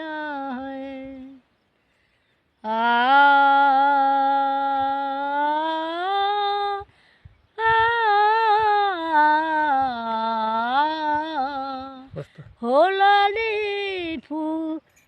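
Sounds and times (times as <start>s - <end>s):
woman singing without words: 0.0s - 1.6s, 2.6s - 15.0s.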